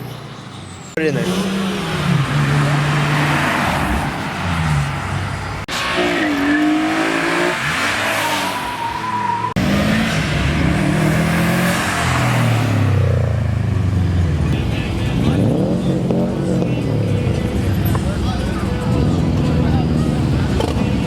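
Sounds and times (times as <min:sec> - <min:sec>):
car engine revving: 0:00.9 - 0:21.0.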